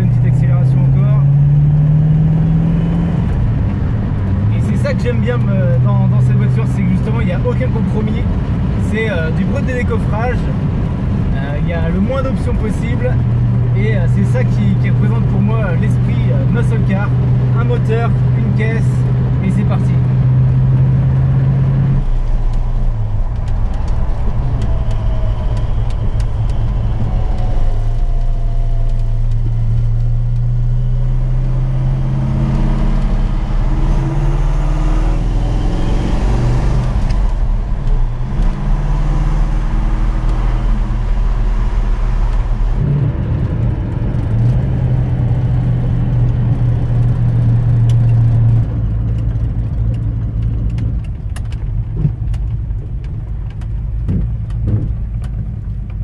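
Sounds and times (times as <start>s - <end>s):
car engine drone accelerating: 0.0s - 56.0s.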